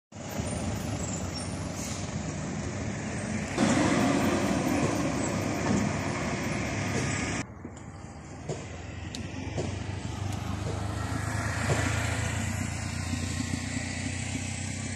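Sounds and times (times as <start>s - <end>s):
diesel bus engine running: 0.1s - 14.9s
road noise: 0.1s - 14.9s.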